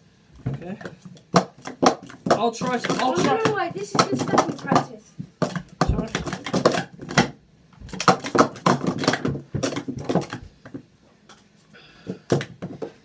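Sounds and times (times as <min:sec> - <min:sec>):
plastic cups clacking: 0:00.5 - 0:11.4, 0:12.1 - 0:13.0.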